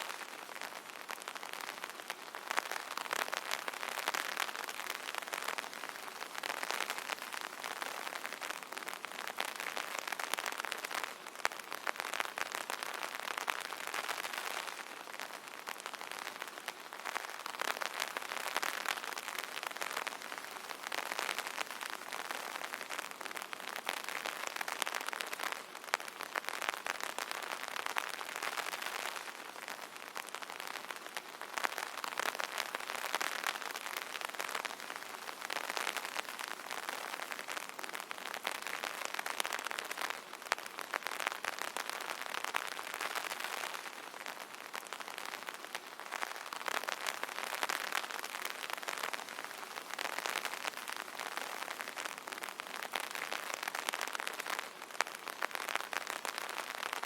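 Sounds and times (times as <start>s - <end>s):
rain pattering on an umbrella: 0.0s - 57.0s.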